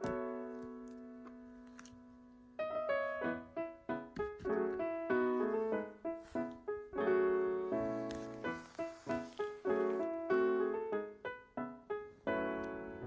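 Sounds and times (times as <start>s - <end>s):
light piano melody: 0.0s - 13.0s.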